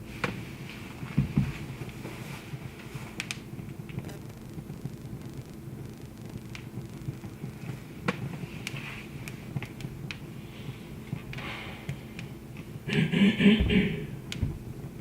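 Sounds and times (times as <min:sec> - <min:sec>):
wood fire crackling: 0:00.0 - 0:13.1, 0:14.0 - 0:15.0.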